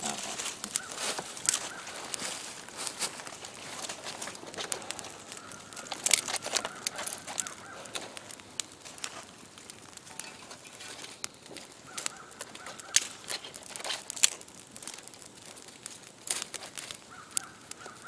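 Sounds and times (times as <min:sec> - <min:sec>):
campfire crackling: 0:00.0 - 0:18.0
leaf litter crunching: 0:00.0 - 0:18.0
sticks snapping: 0:00.0 - 0:18.0.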